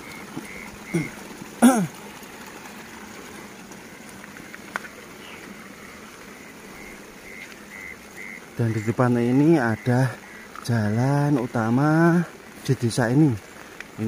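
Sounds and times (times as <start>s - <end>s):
trickling water: 0.0s - 14.0s.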